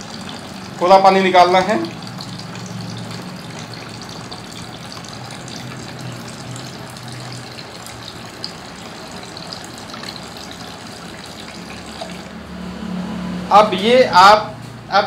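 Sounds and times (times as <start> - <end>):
water stream splashing on table: 0.0 - 12.6.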